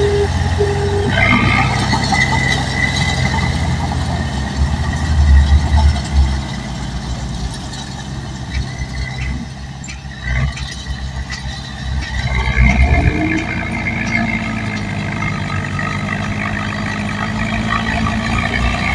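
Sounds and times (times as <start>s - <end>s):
diesel engine under load: 0.0s - 18.9s.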